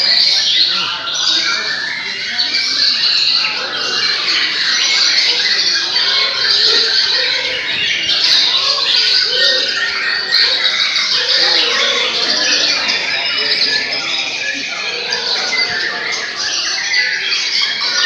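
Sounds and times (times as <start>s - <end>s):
birds singing in chorus: 0.0s - 18.0s.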